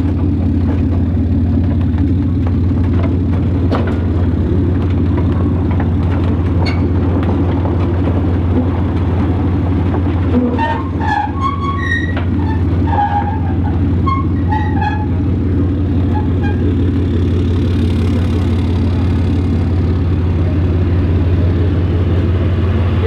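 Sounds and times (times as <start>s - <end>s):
engine and road noise in cab: 0.0s - 23.0s.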